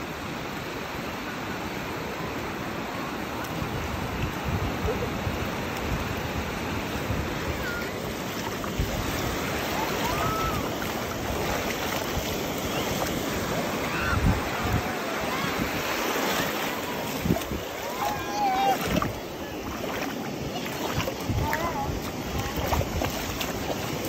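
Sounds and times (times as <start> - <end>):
waves washing over sand: 0.0 - 24.0.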